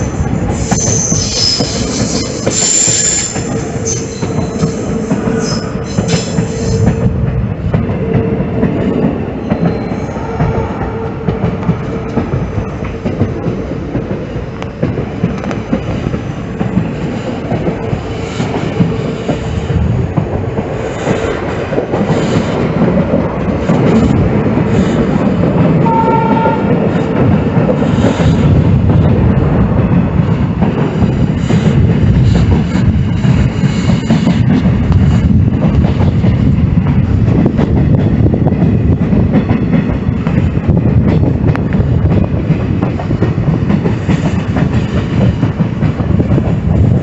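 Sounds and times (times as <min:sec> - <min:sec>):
train wheels clattering on rails: 0:00.0 - 0:47.0.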